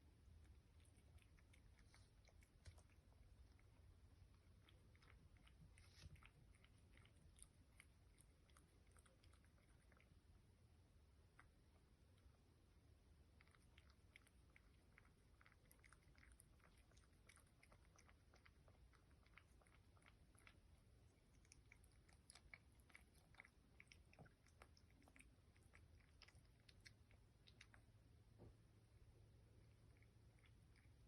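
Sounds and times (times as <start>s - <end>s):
cat chewing food: 0.0s - 31.0s.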